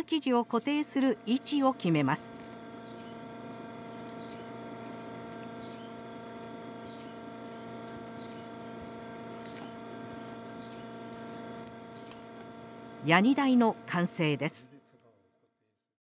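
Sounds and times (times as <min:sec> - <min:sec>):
electrical hum: 0:00.0 - 0:15.2.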